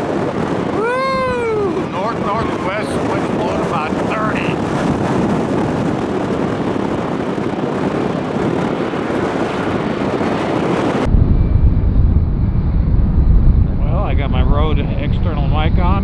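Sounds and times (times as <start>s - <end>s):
heavy low rumble: 0.0s - 16.0s
wind blasting the microphone: 0.0s - 16.0s.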